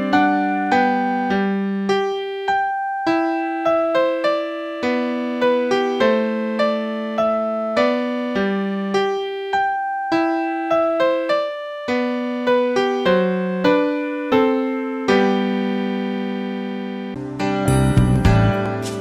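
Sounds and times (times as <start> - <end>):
slow electric piano melody: 0.0 - 19.0.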